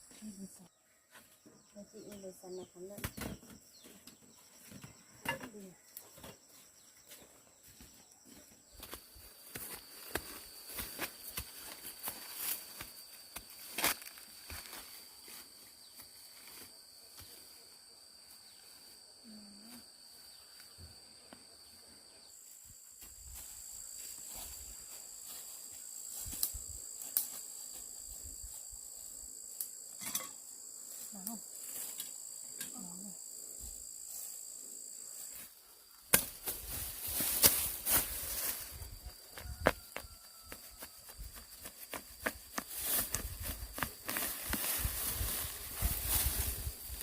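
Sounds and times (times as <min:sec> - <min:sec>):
higher insect tone: 0:00.0 - 0:47.0
insects chirring: 0:00.0 - 0:47.0.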